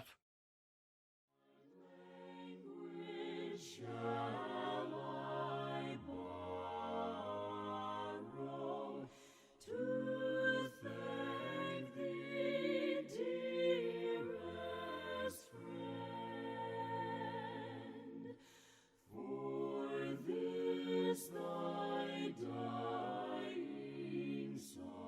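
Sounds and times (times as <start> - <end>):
choir singing a hymn: 1.7 - 25.0.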